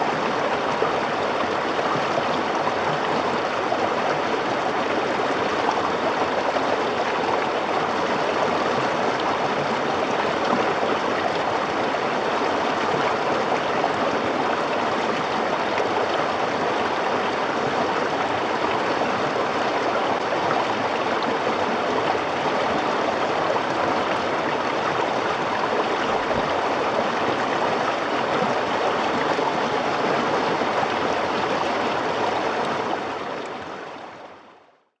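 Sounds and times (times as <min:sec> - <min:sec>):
river running over rocks: 0:00.0 - 0:34.5.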